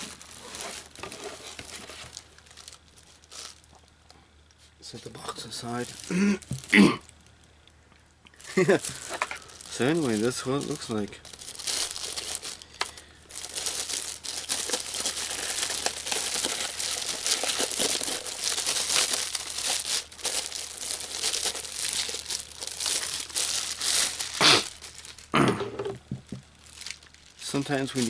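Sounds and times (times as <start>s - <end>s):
plastic packaging crinkling: 0.0s - 7.5s, 8.3s - 28.0s.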